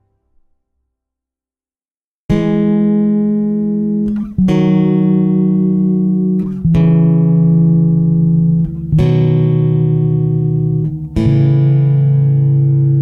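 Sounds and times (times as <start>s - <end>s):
slow sustained guitar notes: 2.3s - 13.0s.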